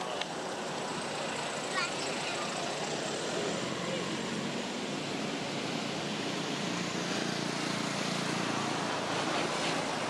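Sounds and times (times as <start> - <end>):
outdoor rushing background noise: 0.0 - 10.0.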